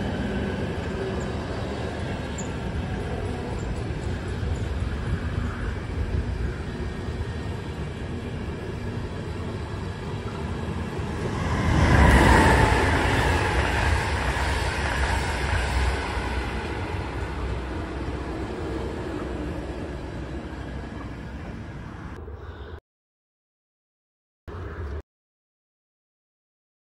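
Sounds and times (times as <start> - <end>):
passing train rushing: 0.0 - 22.2
train rumbling on rails: 0.0 - 22.3.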